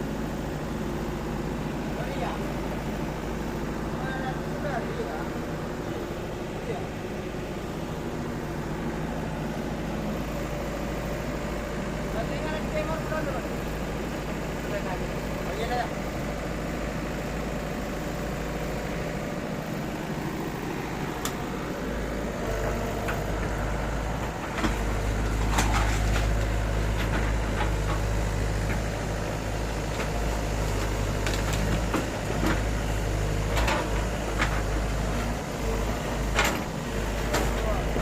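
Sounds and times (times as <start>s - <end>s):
excavator diesel engine drone: 0.0s - 38.0s.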